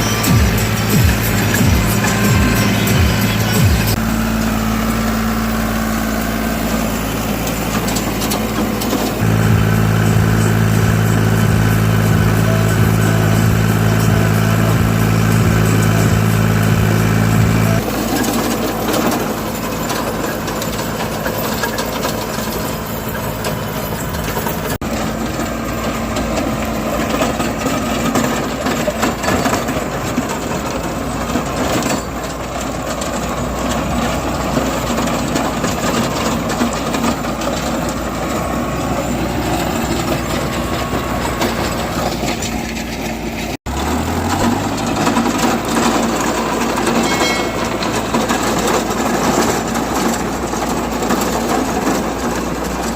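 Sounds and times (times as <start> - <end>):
rotavator clattering: 0.0 - 52.9
tractor engine running: 0.0 - 52.9.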